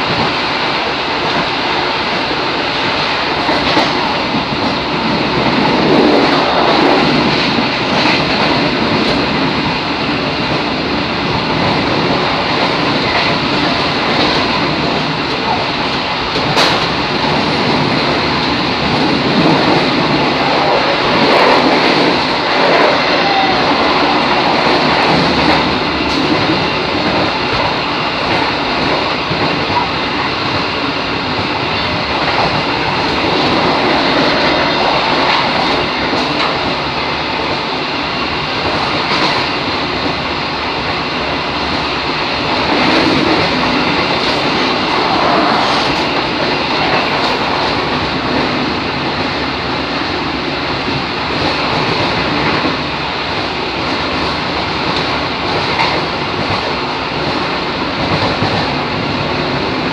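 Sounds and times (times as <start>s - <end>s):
train wheels running on rails: 0.0s - 59.9s.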